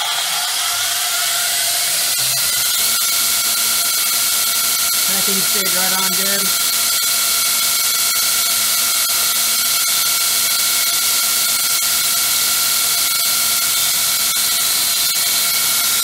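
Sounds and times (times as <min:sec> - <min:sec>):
belt grinder whining: 0:00.0 - 0:16.0.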